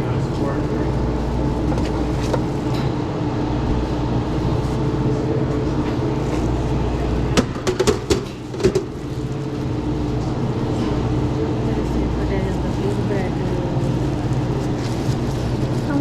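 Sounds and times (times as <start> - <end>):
kitchen equipment humming: 0.0 - 16.0.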